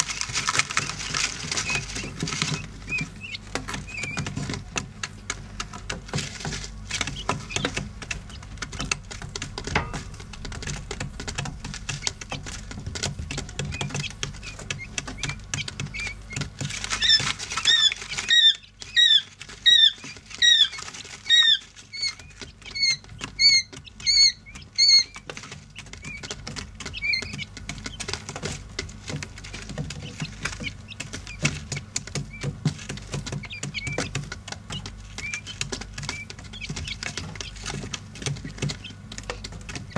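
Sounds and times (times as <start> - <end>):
chick peeps: 0.0 - 39.9
chicks pecking in gritty bedding: 0.0 - 39.9.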